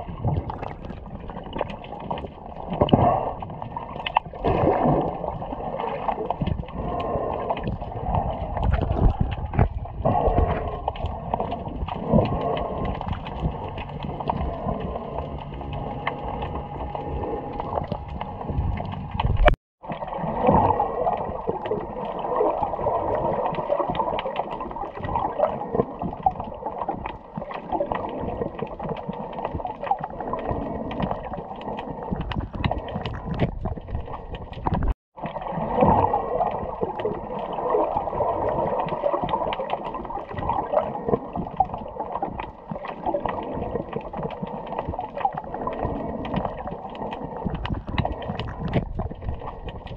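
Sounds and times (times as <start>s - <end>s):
crackle of small clicks: 0.0s - 20.0s, 21.1s - 35.4s, 36.4s - 49.9s
water swishing and gurgling underwater: 0.0s - 49.9s.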